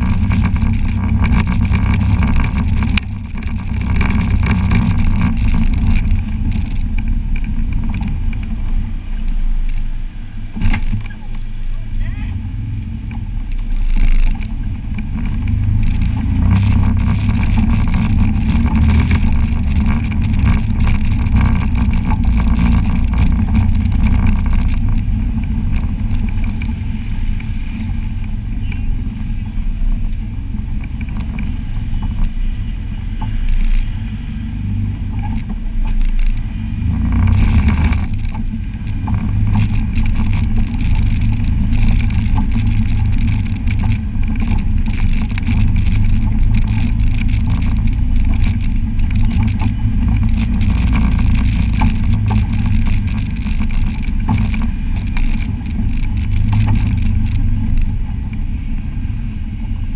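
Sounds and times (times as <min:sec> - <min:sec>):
vehicle engine running: 0:00.0 - 0:59.9
vehicle rattles and knocks: 0:00.0 - 0:59.9.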